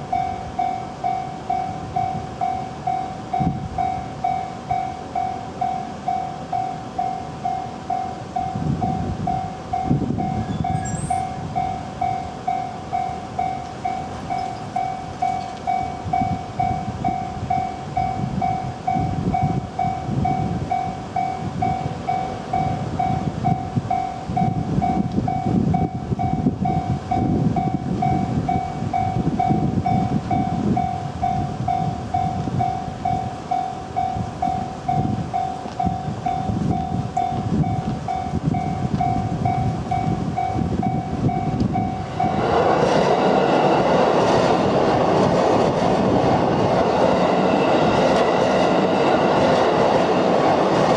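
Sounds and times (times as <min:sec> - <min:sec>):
crossing warning bell dinging: 0:00.0 - 0:50.9
train wheels rumbling on rail: 0:00.0 - 0:50.9.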